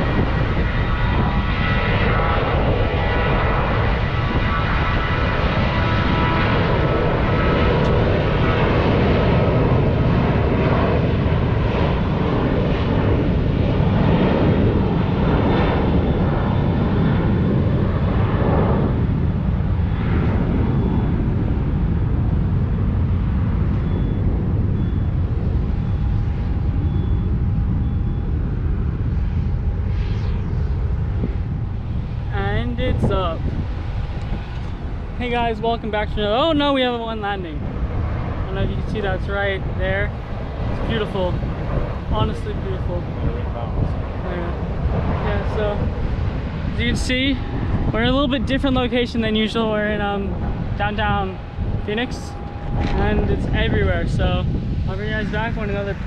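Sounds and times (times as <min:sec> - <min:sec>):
jet airliner engine rumble and whine: 0:00.0 - 0:56.0.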